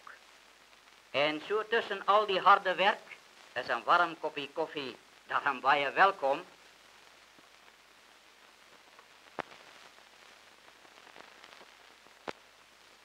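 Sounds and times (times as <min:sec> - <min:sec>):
film soundtrack hiss: 0:00.0 - 0:13.0.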